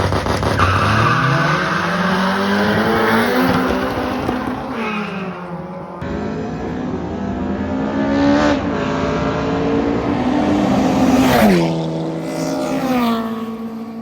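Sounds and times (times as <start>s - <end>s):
drag racing cars accelerating: 0.0s - 14.0s.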